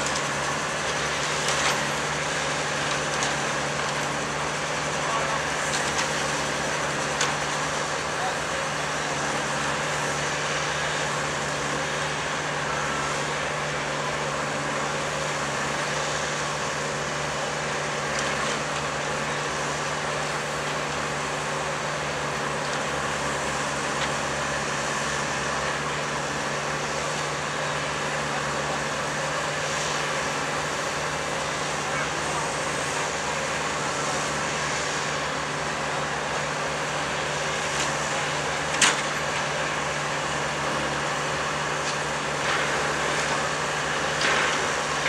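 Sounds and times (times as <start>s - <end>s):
engine running steadily: 0.0s - 45.0s.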